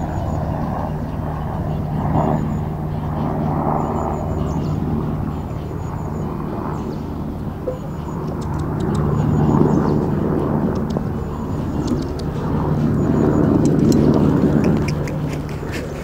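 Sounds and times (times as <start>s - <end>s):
low engine hum: 0.0s - 16.0s
open-air noise: 0.0s - 16.0s.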